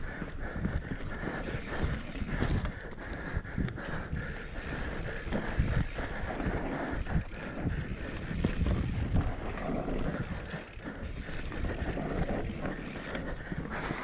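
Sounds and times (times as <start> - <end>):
bike rattling and knocking: 0.0 - 14.0
wind buffeting microphone: 0.0 - 14.0.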